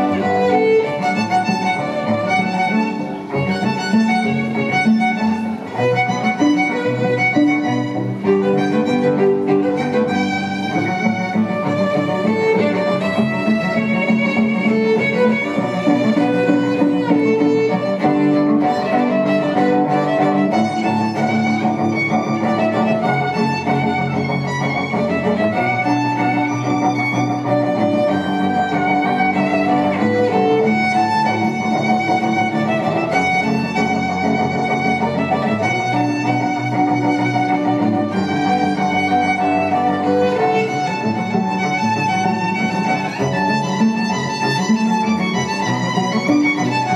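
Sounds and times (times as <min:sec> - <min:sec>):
violin melody: 0:00.0 - 0:46.9.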